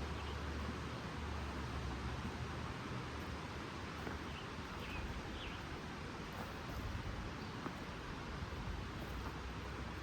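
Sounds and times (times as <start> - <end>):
steady rushing outdoor noise: 0.0 - 10.0.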